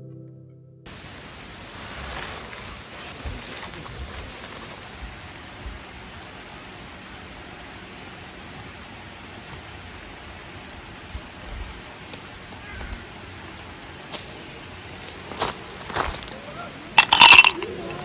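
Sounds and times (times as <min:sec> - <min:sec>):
outdoor background hiss: 0:00.9 - 0:18.0.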